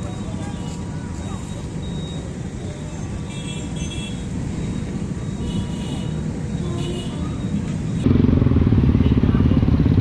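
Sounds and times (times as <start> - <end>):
many motorcycle engines running: 0.0 - 10.0.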